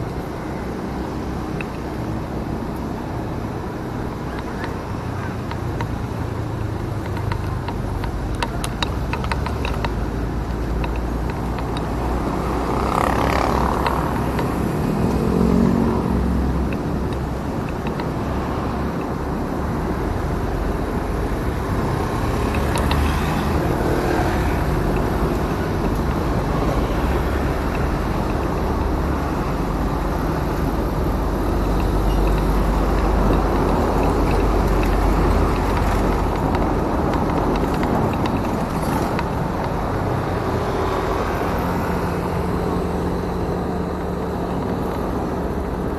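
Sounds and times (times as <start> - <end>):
passing road traffic: 0.0 - 45.9
wind rush on microphone: 0.0 - 45.9.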